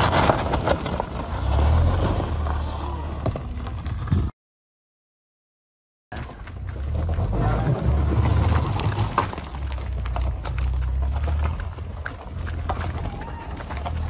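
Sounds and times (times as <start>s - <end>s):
car engine and tyre rumble: 0.0s - 4.3s, 6.1s - 14.0s
gravel crunching under wheels: 0.0s - 4.3s, 6.1s - 14.0s.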